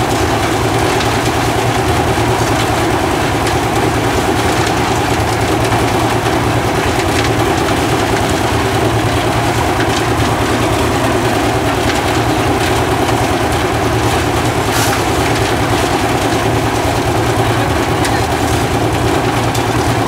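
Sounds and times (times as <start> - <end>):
concrete mixer churning: 0.0 - 20.0.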